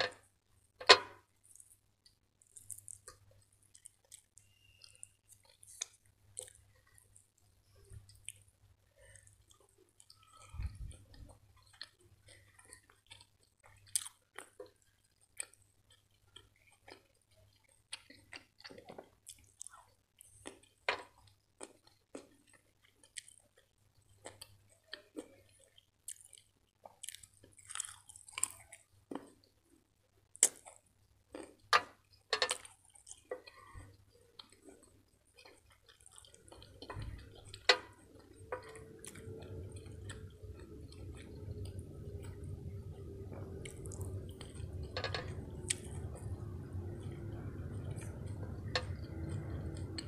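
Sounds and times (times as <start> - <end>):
wet chewing sounds: 1.4 - 50.0.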